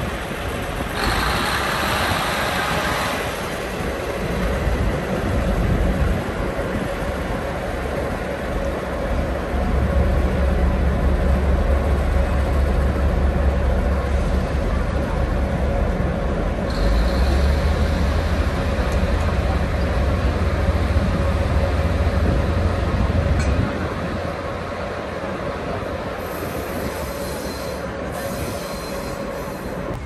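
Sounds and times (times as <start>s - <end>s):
railcar engine drone: 0.0s - 30.0s.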